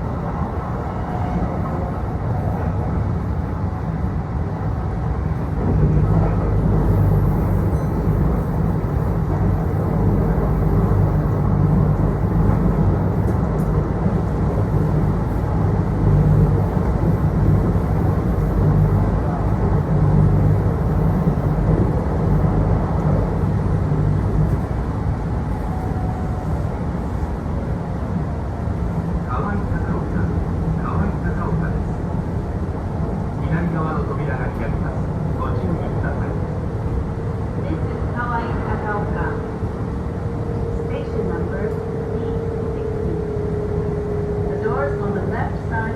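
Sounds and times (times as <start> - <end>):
train wheels rumbling on rail: 0.0 - 45.9.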